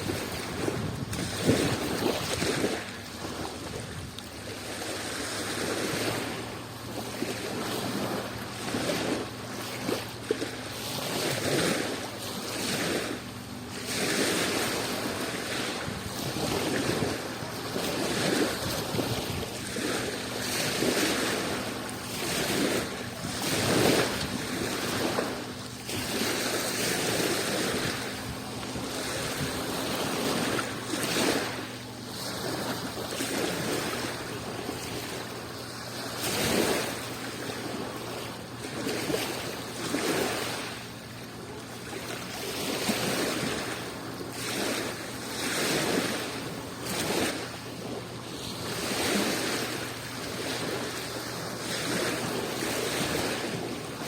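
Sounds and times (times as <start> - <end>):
sea waves washing on shore: 0.0 - 54.0.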